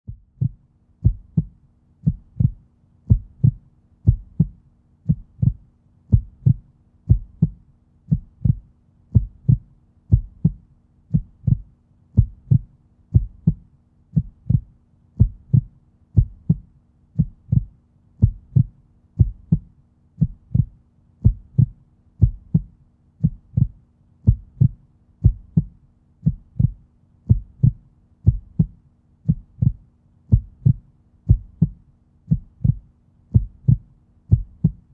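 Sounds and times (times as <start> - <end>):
heartbeat thumps: 0.1 - 34.9.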